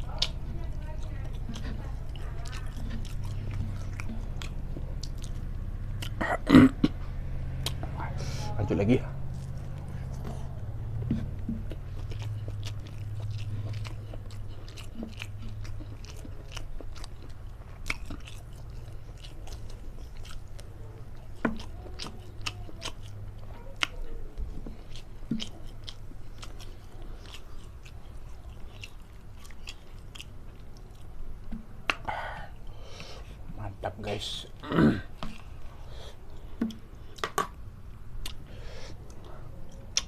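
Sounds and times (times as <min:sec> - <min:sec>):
person chewing beans: 0:00.0 - 0:40.0
steady low hum: 0:00.0 - 0:40.0.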